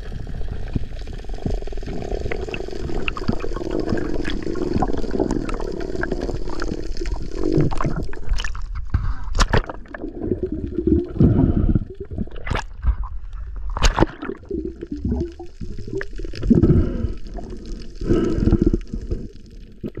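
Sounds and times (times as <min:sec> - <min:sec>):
muffled water gurgling and sloshing: 0:00.0 - 0:20.0.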